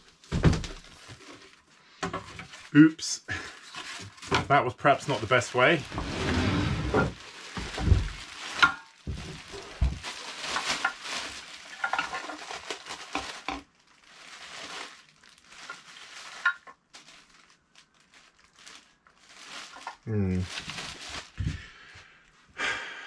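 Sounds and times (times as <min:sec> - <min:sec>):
plastic bag rustling and crinkling: 0:00.0 - 0:22.0.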